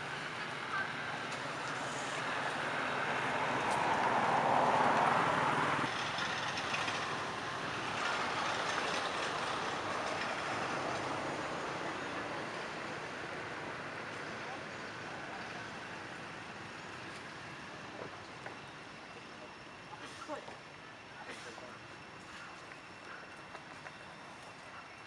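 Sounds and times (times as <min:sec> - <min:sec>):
road vehicle passing: 0:00.0 - 0:25.0.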